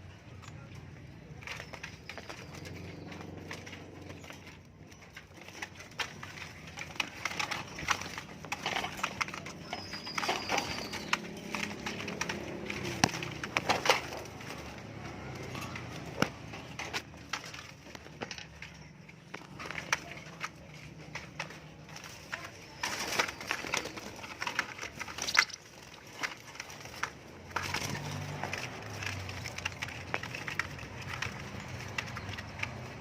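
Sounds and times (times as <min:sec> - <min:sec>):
songbird chirping: 0:00.0 - 0:33.0.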